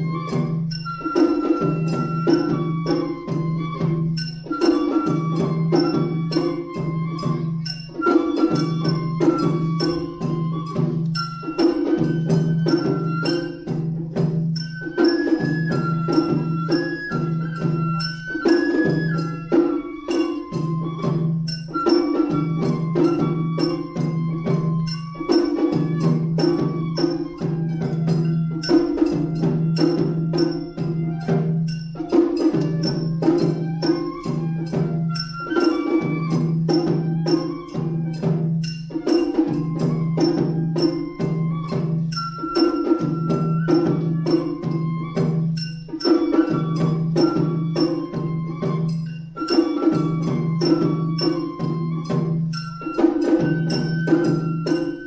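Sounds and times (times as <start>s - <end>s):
bamboo flute melody: 0.0s - 55.0s
drums in steady rhythm: 0.0s - 55.0s.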